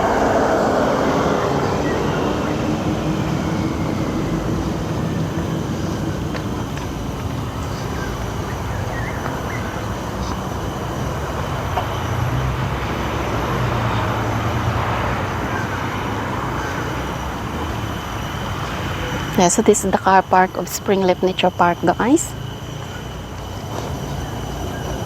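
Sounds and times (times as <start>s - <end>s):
cars passing by: 0.0s - 25.0s
road traffic noise: 0.0s - 25.0s.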